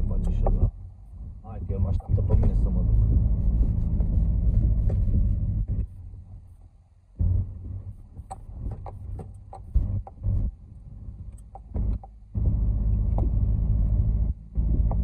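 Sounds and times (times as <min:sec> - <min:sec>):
car knocking and rattling: 0:00.0 - 0:06.5, 0:07.2 - 0:15.0
car tyres and engine rumbling: 0:00.0 - 0:15.0.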